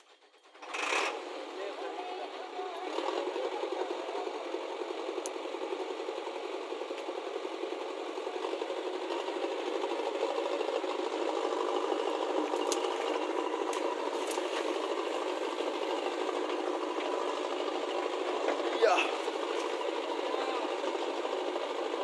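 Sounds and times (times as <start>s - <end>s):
small engine rattling: 0.0s - 22.0s.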